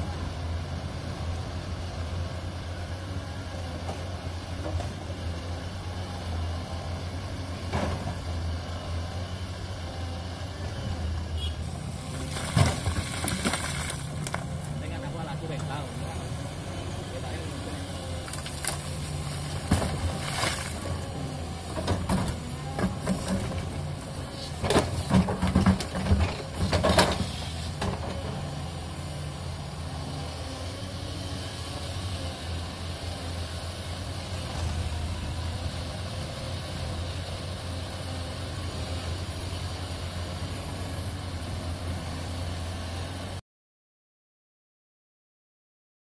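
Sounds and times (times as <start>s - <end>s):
excavator diesel engine running: 0.0s - 43.4s.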